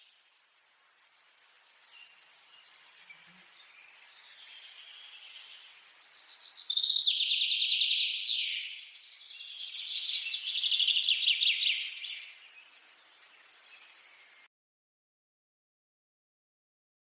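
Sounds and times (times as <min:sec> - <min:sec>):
bird chirping: 0:00.0 - 0:14.5.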